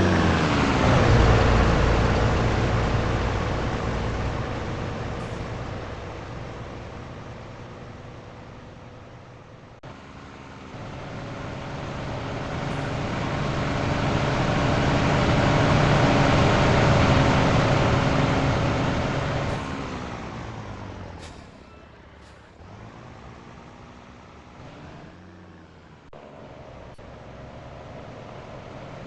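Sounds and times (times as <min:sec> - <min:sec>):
heavy truck engine: 0:00.0 - 0:29.0
road noise: 0:00.0 - 0:29.0.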